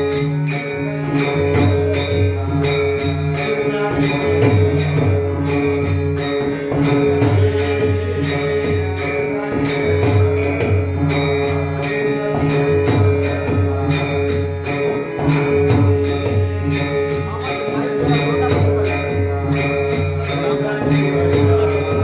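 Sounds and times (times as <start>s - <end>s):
jingling metal percussion: 0.0s - 22.0s.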